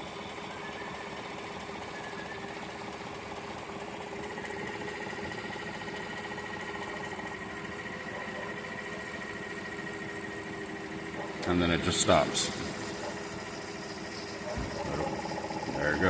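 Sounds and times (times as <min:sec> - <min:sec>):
engine running: 0:00.0 - 0:16.0
rapid even engine tapping: 0:00.0 - 0:16.0.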